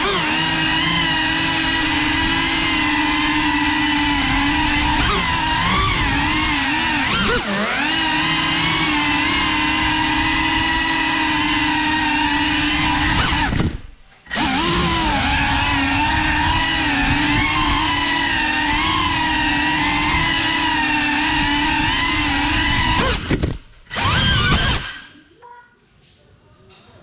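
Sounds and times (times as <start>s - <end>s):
drone motors whining: 0.0s - 25.1s.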